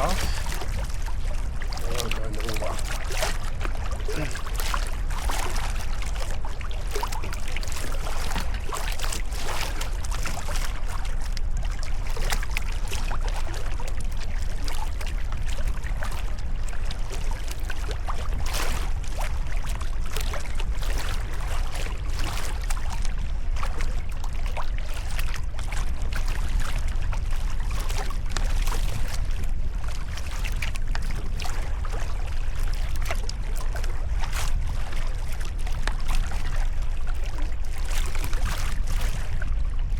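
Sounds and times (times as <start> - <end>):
paddle splashing in water: 0.0 - 39.9
steady low rumble: 0.0 - 39.9
water trickling off paddle: 0.0 - 39.9.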